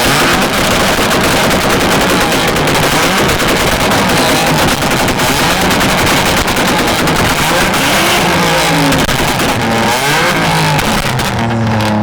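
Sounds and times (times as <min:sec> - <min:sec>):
car engines revving: 0:00.0 - 0:12.0
exhaust pops and bangs: 0:00.0 - 0:12.0.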